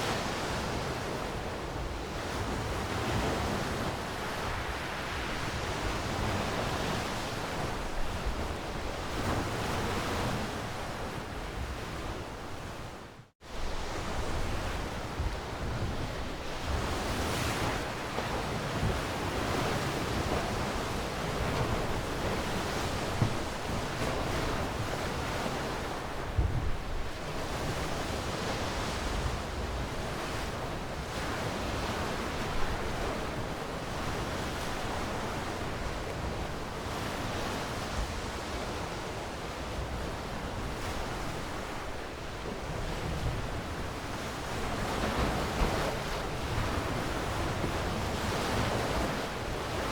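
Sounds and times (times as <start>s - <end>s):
ocean waves on shore: 0.0s - 49.9s.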